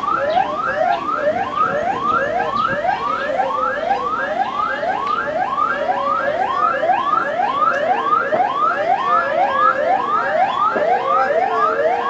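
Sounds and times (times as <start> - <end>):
electronic siren yelping: 0.0 - 12.0.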